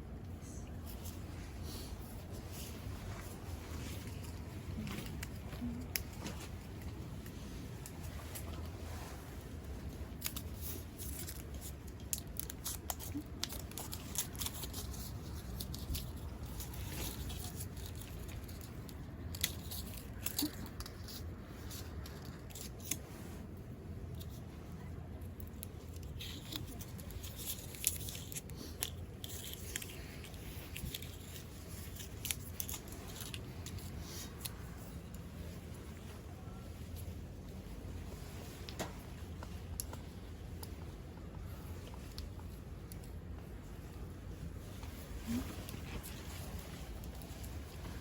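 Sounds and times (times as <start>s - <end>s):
small clicks and crinkles: 0.1s - 48.0s.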